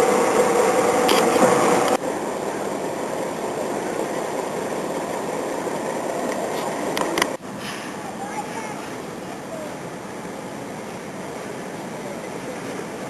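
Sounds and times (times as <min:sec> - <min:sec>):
heavy vehicle rumbling: 0:00.0 - 0:13.0.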